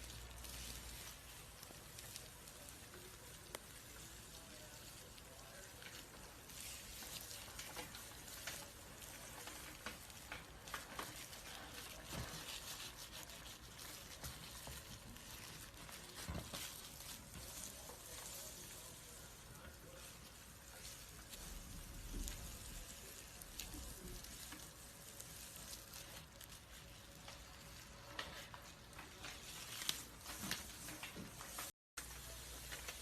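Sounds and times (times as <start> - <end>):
dry crackling and rustling skin: 0.0 - 33.0.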